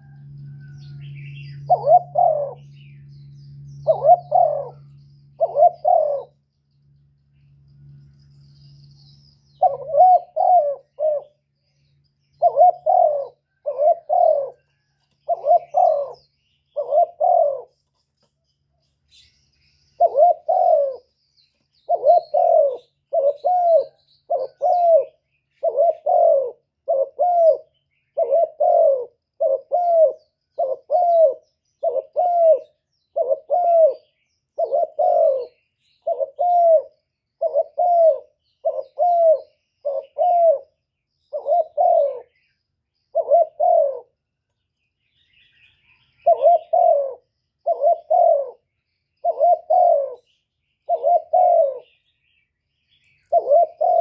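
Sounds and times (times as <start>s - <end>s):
dove cooing: 0.0s - 6.5s, 9.5s - 11.6s, 12.2s - 18.3s, 20.0s - 44.2s, 45.6s - 52.1s, 52.9s - 54.0s
small birds chirping: 0.0s - 54.0s.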